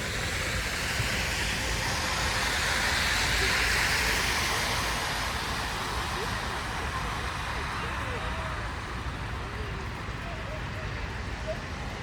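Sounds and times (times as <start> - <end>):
low traffic rumble: 0.0 - 12.0
tyre hiss on wet street: 0.0 - 12.0.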